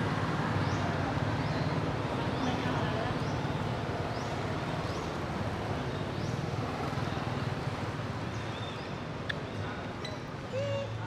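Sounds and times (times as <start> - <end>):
low rumble of distant traffic: 0.0 - 11.0.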